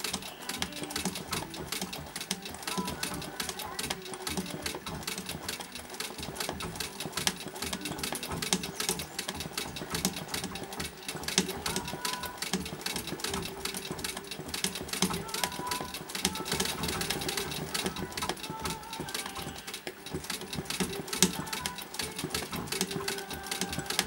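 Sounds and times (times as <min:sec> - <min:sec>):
sewing machine clicking rapidly: 0:00.0 - 0:24.0.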